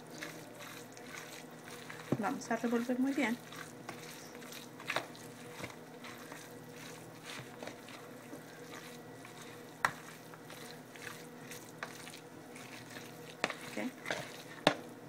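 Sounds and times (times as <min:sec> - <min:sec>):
spoon stirring wet salad: 0:00.0 - 0:15.0.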